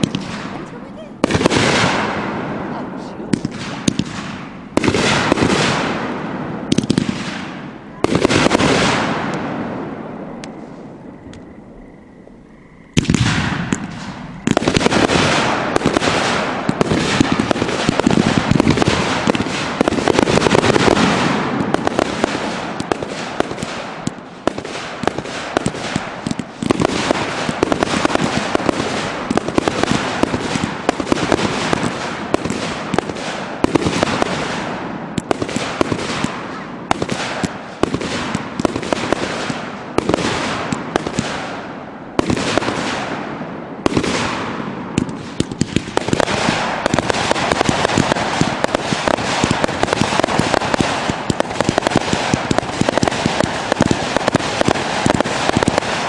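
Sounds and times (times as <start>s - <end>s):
fireworks launching and bursting: 0.0s - 11.5s, 12.9s - 56.0s.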